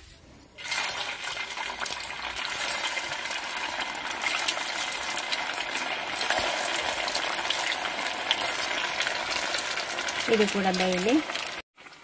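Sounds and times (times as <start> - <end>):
batter sizzling in hot oil: 0.6 - 12.0.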